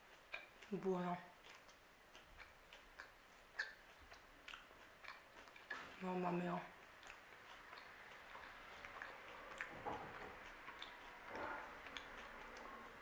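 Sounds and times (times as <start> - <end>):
chewing crunchy bar: 0.0 - 6.0, 6.6 - 13.0.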